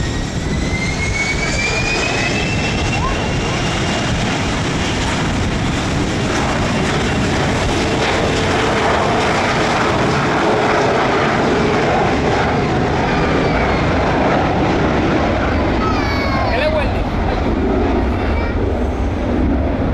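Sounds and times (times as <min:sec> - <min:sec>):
jet engines running: 0:00.0 - 0:19.9.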